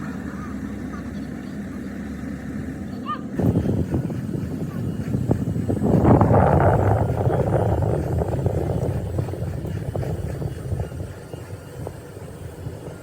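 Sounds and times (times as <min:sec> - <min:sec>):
low machine engine noise: 0:00.0 - 0:13.0.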